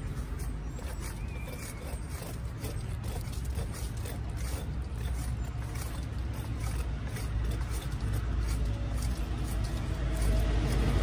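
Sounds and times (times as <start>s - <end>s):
knife cutting pineapple rind: 0.0s - 11.0s.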